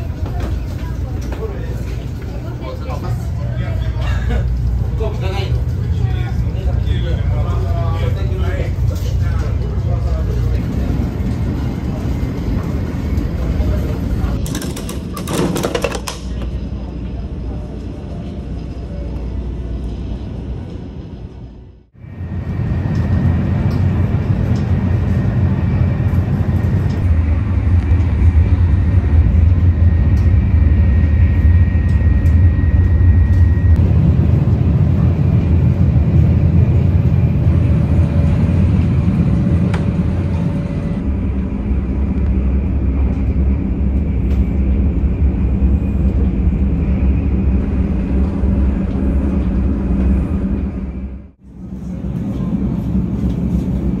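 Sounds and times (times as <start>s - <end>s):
train rumbling from inside: 0.0s - 54.0s.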